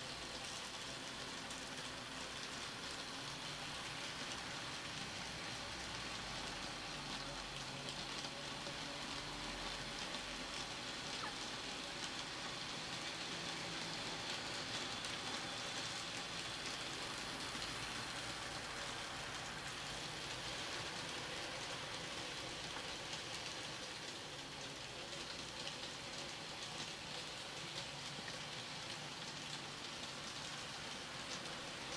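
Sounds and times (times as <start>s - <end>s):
model train wheels on rails: 0.0s - 31.9s.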